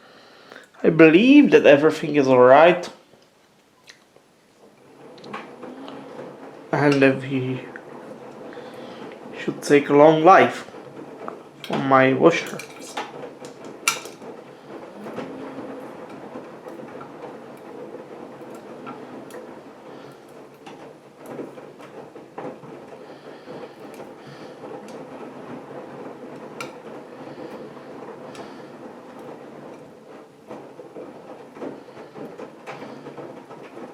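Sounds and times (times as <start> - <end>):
washing machine drum turning: 4.6 - 33.9.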